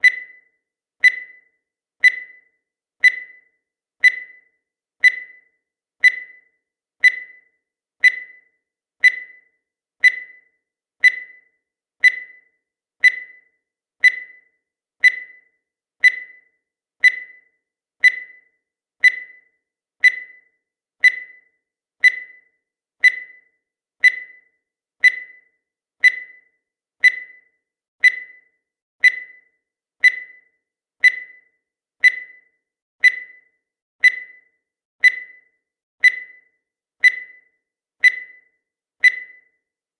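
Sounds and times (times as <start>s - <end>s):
short electronic beeps: 0.0s - 39.6s.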